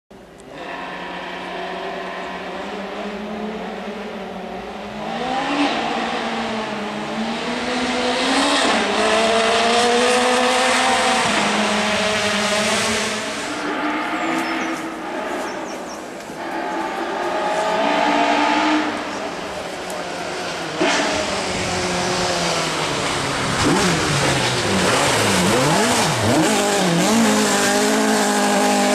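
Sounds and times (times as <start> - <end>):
rally car engines revving: 0.1 - 28.9.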